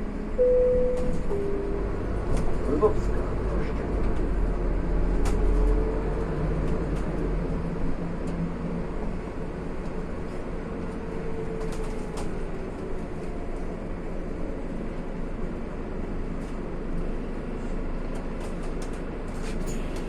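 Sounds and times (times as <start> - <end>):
bus diesel engine hum: 0.0 - 20.0
road noise: 0.0 - 20.0.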